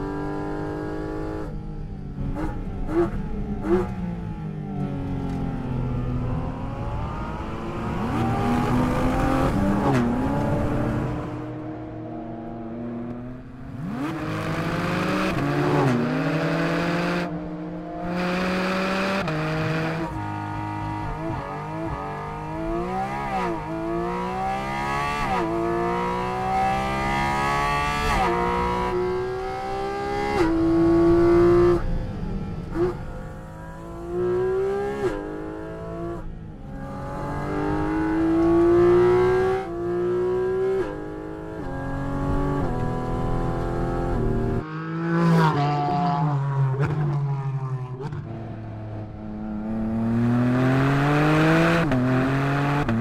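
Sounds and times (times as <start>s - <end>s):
sports car engine at full throttle: 0.0s - 53.0s.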